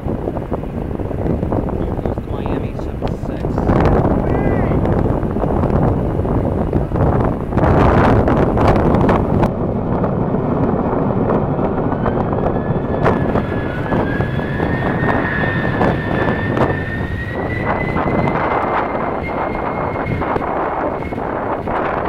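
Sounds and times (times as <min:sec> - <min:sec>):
high turbine whine: 0:00.0 - 0:22.0
jet engines rumbling: 0:00.0 - 0:22.0
wind buffeting microphone: 0:00.0 - 0:22.0.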